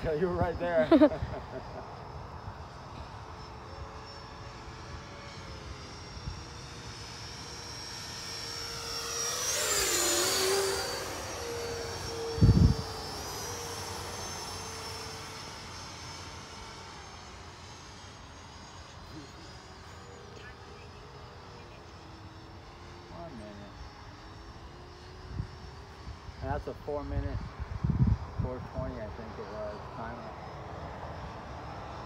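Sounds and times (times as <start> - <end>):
jet turbine engines whining: 0.0 - 32.0.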